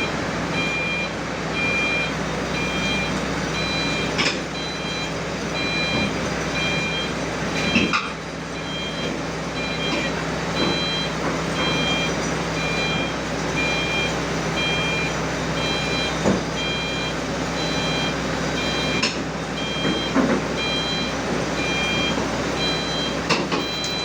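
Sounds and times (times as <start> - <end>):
machine travel alarm beeping: 0.0 - 7.9, 8.6 - 24.0
diesel engine running: 0.0 - 24.0.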